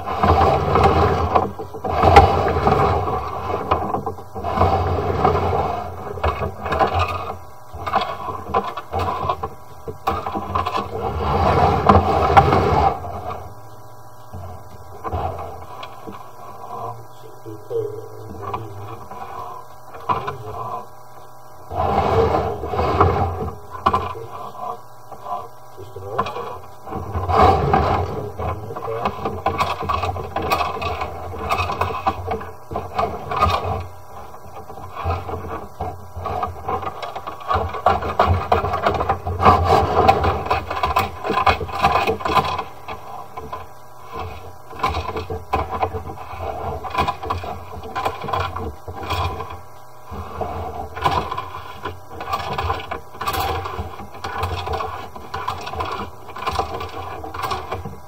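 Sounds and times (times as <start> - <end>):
cable scraping and rattling in drain: 0.0 - 21.0, 21.7 - 58.0
low steady hum: 0.0 - 58.0.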